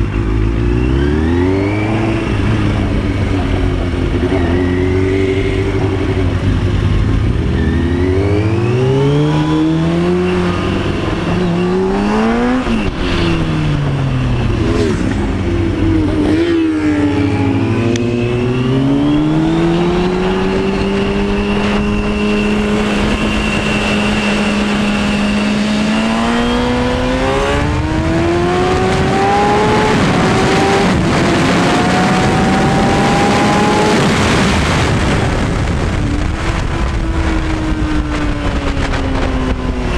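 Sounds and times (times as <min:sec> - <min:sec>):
motorcycle engine accelerating: 0:00.0 - 0:39.9
wind rush over microphone: 0:01.1 - 0:39.9.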